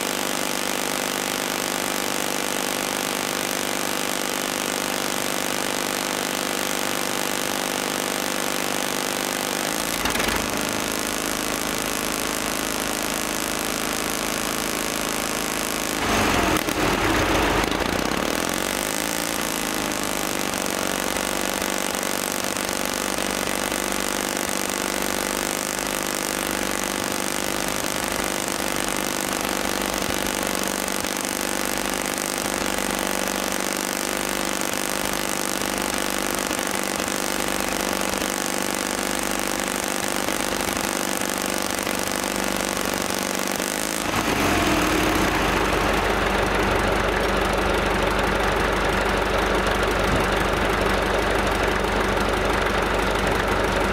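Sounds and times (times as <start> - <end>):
excavator engine running: 7.1 - 53.9.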